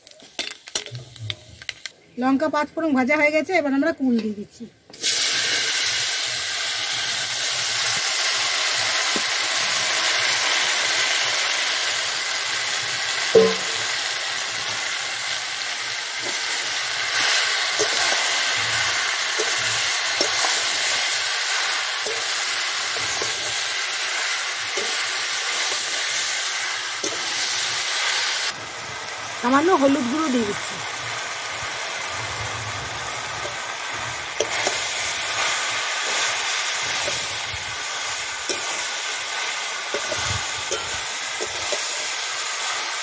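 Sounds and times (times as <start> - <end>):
fruit sizzling in hot oil: 0.0 - 3.8, 4.9 - 43.0.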